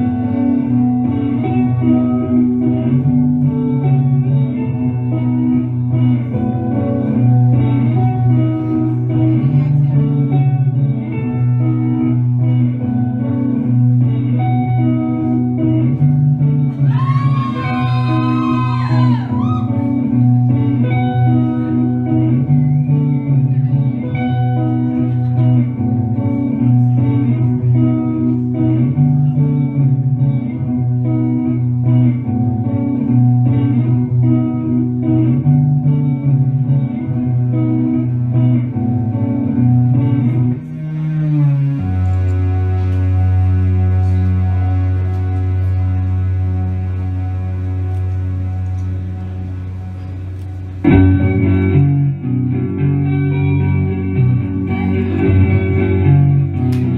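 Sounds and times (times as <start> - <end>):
bass line: 0.0 - 56.9
electric guitar figure: 0.0 - 56.9.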